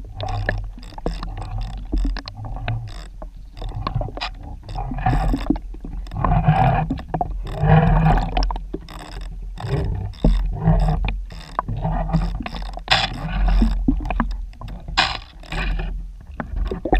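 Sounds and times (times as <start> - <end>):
underwater rumbling and gurgling: 0.0 - 16.9
sharp clicks: 0.2 - 6.3, 6.9 - 15.8.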